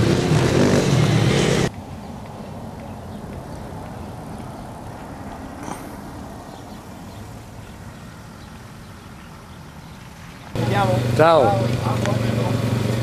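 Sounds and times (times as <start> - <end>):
distant vehicle engine rumble: 0.0 - 13.0.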